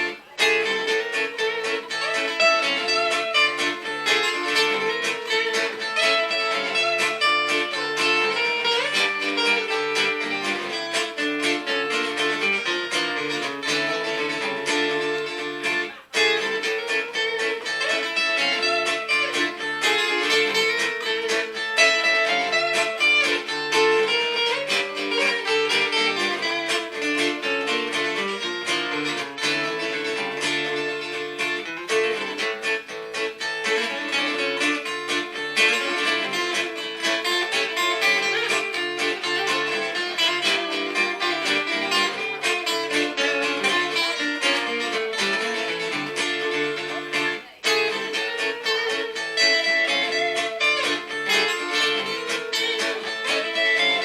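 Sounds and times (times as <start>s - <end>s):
electric guitar lead melody: 0.0s - 54.0s
looped guitar backing: 0.0s - 54.0s.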